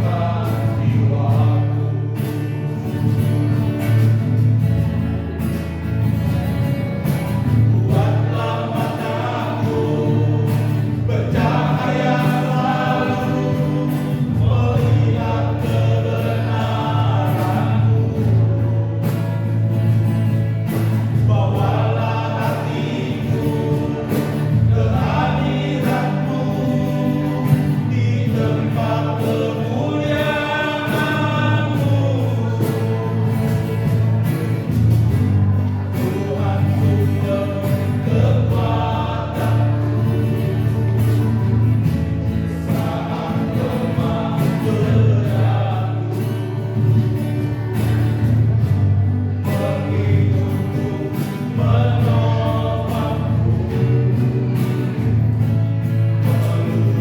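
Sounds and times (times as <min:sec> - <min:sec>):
choir singing: 0:00.0 - 0:02.9, 0:07.2 - 0:55.4.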